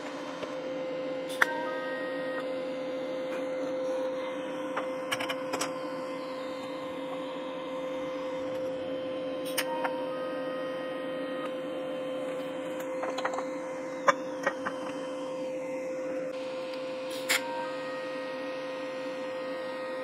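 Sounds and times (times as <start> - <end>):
steady electrical hum: 0.0 - 20.0
welding arc whine: 0.0 - 20.0.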